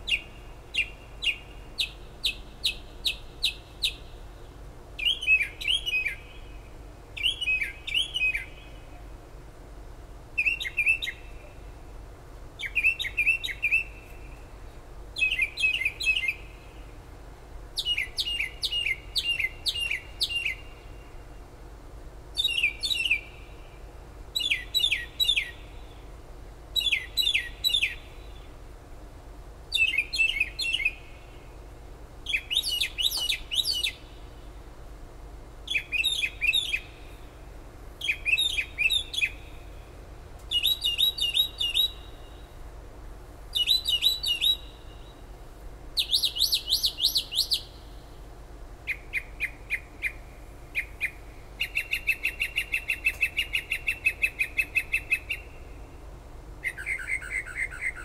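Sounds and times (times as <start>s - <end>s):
songbird singing: 0.0s - 9.5s, 10.3s - 58.0s
steady low hum: 0.0s - 58.0s.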